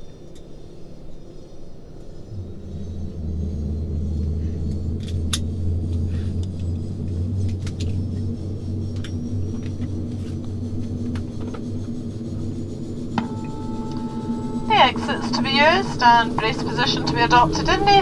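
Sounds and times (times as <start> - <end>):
turboprop engine winding up: 2.1 - 18.0.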